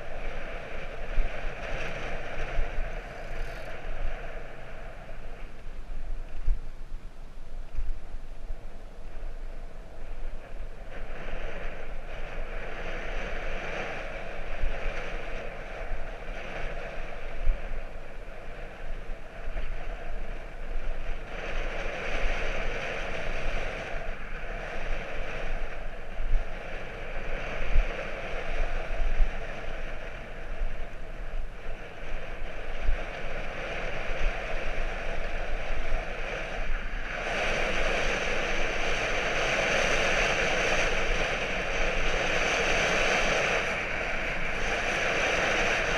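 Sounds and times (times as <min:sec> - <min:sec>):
rushing wind and road noise: 0:00.0 - 0:45.9
wind buffeting microphone: 0:00.0 - 0:45.9.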